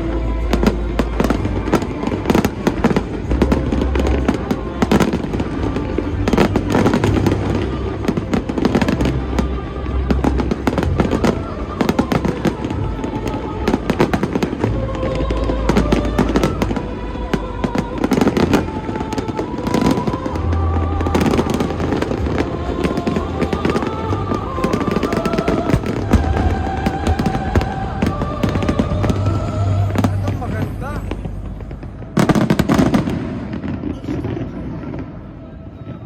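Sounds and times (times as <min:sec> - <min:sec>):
fireworks bangs and crackling: 0:00.0 - 0:36.0
music of long held notes: 0:00.0 - 0:36.0.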